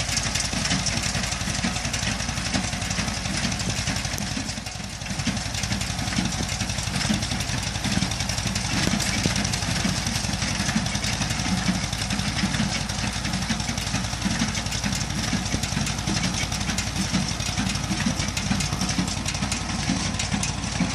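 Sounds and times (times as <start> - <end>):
hay baler mechanical clatter: 0.0 - 20.9
tractor engine pulse: 0.0 - 20.9.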